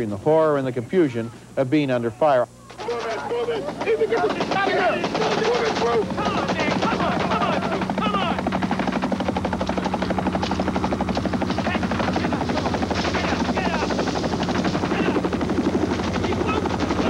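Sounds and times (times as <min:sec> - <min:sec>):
helicopter rotor blades beating: 0:00.0 - 0:17.0.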